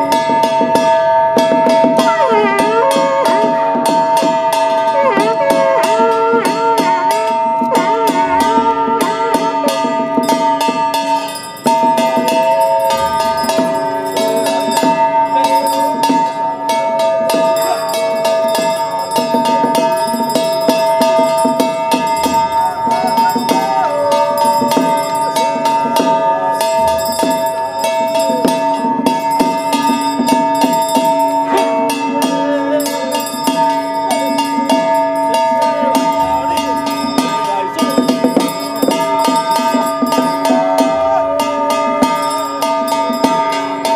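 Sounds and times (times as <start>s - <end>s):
hand bell ringing: 0.0s - 43.9s
low melody: 0.0s - 43.9s
percussion: 0.0s - 43.9s.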